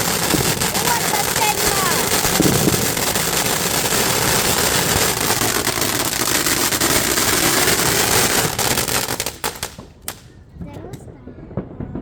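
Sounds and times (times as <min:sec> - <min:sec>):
fireworks crackling: 0:00.0 - 0:11.1.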